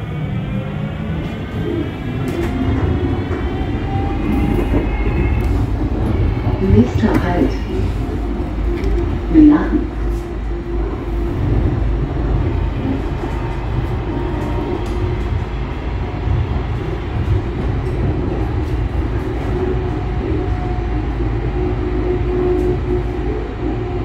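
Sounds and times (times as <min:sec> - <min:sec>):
light-rail wheels rumbling: 0:00.0 - 0:24.0
constant hum: 0:00.5 - 0:24.0.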